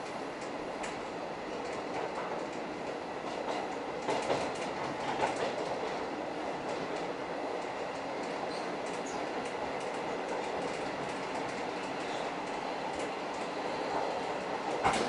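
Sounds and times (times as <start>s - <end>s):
electric train rumbling: 0.0s - 15.0s
wheels clicking over rail joints: 0.4s - 15.0s.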